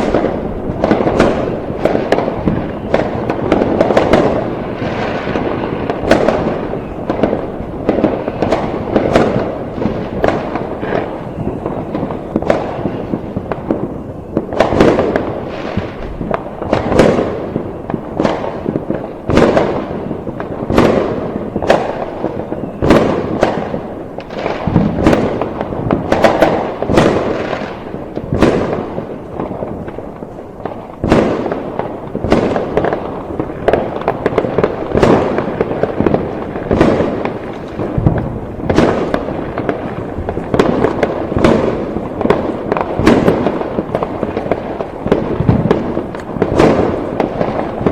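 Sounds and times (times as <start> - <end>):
fireworks bangs: 0.0 - 47.9
rumble and crackle of explosions: 0.0 - 47.9.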